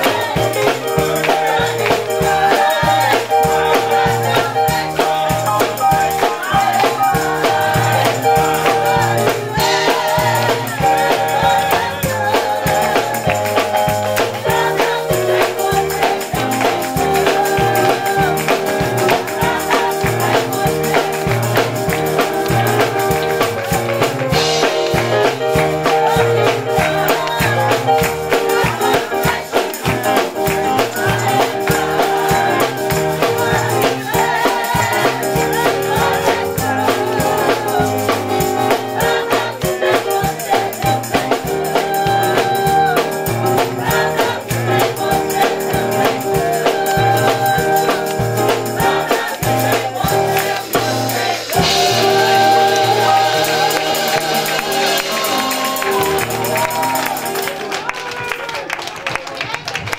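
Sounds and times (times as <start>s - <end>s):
bass line: 0.0s - 57.4s
choir singing gospel: 0.0s - 58.0s
percussion beat: 0.0s - 58.6s.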